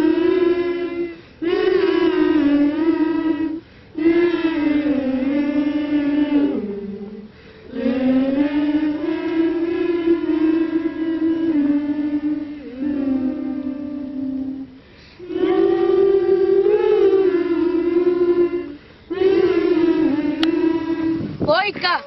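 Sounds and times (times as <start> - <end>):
gospel choir singing: 0.0 - 21.5.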